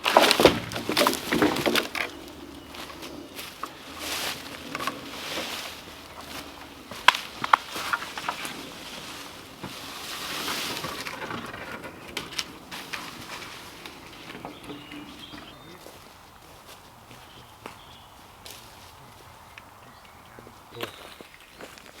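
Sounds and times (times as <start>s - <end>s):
rustling in dry leaves: 0.0s - 22.0s.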